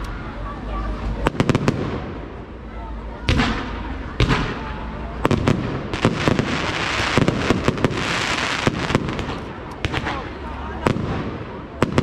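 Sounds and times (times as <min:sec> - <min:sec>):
fireworks crackling: 0:00.8 - 0:02.6, 0:03.3 - 0:12.0.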